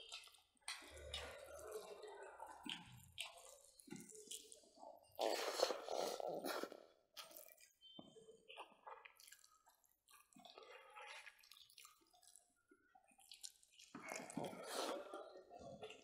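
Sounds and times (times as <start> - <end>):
people chewing and lip-smacking: 0.0 - 16.0.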